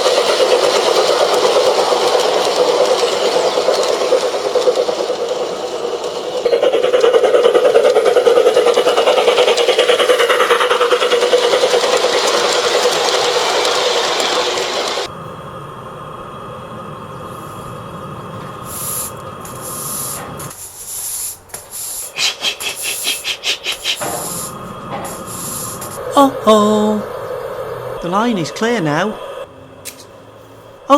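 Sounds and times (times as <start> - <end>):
model locomotive steam hiss: 0.0 - 30.9
rhythmic steam chuffs: 0.0 - 30.9.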